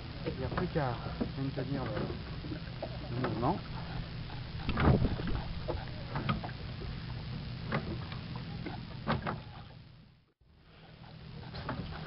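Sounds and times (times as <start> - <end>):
water splashing: 0.0 - 9.8.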